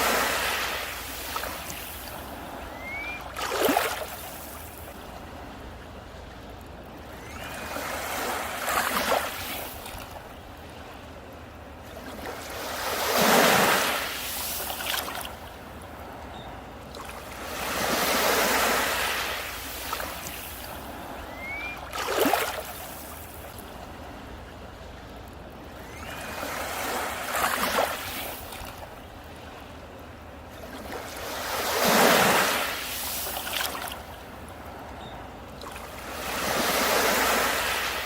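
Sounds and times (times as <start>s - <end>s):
waves breaking on a beach: 0.0s - 38.0s.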